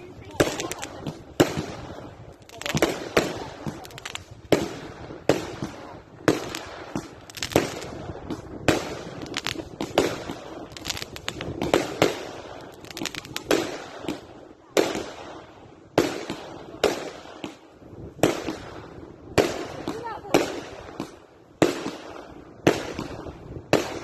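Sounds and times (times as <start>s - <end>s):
fireworks bursting with crackle: 0.0s - 24.0s.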